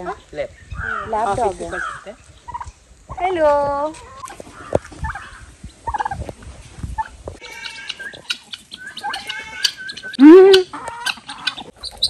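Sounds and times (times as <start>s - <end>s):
turkeys and poultry calling: 0.0s - 3.2s, 4.0s - 6.3s, 6.9s - 12.0s.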